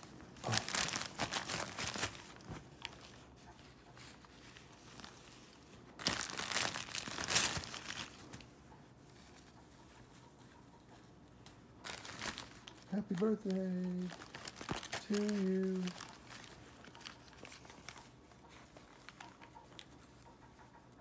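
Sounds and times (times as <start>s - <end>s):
wrapping paper crinkling: 0.0s - 20.3s.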